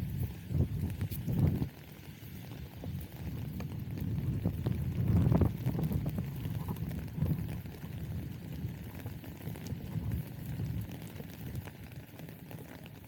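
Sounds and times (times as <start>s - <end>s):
faint rain ticks: 0.0s - 13.0s.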